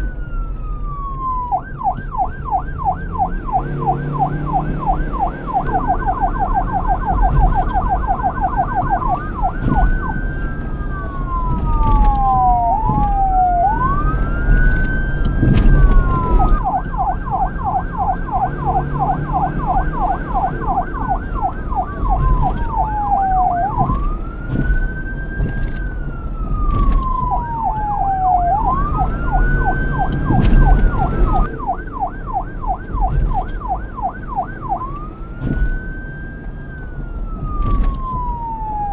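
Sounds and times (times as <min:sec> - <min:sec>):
steady low rumble: 0:00.0 - 0:34.8
police car siren: 0:00.0 - 0:38.9.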